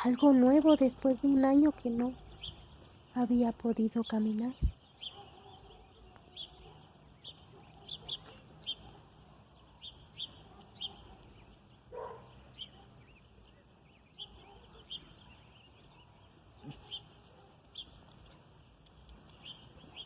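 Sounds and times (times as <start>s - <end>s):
small birds chirping faintly: 0.0s - 20.0s.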